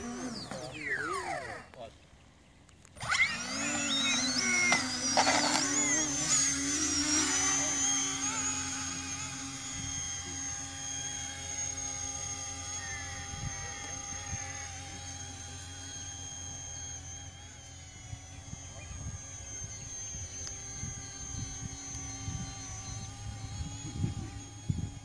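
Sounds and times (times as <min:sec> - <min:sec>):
model plane propellers whining: 0:00.0 - 0:25.0.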